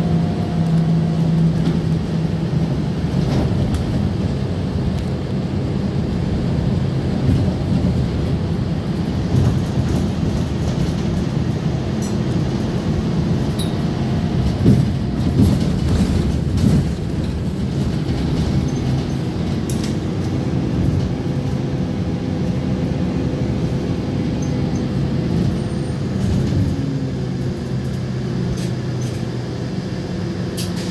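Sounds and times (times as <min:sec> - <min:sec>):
bus engine drone: 0:00.0 - 0:30.9
bus jolts and rattles: 0:00.0 - 0:30.9
road noise: 0:00.0 - 0:30.9.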